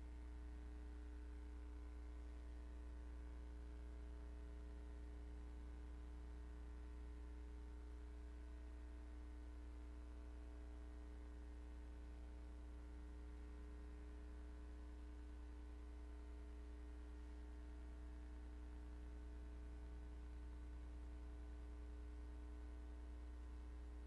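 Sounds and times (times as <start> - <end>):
faint low hum with hiss: 0.0 - 24.0.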